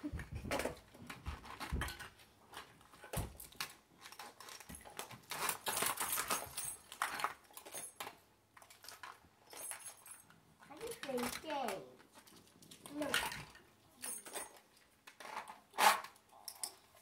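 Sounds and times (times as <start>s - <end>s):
plastic toys clicking and clattering: 0.0s - 17.0s.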